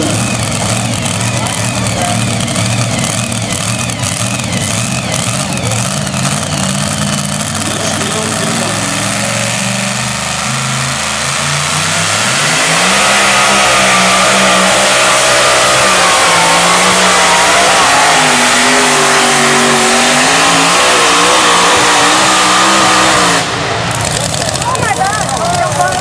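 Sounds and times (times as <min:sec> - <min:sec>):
tractor engine revving: 0:00.0 - 0:26.0.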